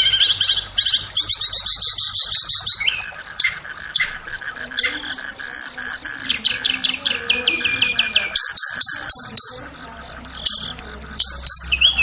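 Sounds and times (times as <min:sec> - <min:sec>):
bird chirping trill: 0:00.0 - 0:12.0
bird high ticks: 0:00.4 - 0:12.0.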